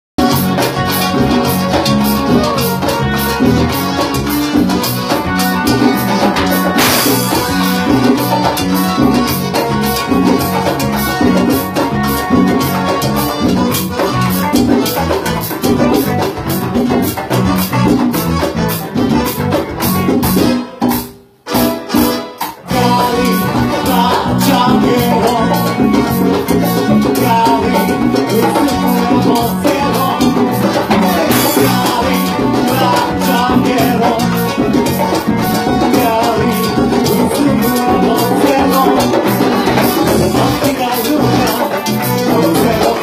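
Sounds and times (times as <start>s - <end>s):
live band playing latin groove: 0.2s - 43.0s.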